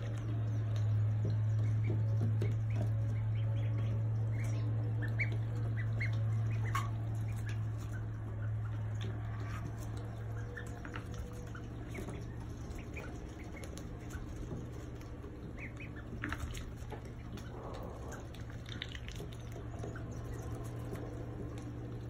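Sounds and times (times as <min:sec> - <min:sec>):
ducklings peeping: 0:00.0 - 0:22.0
steady low hum: 0:00.0 - 0:22.0.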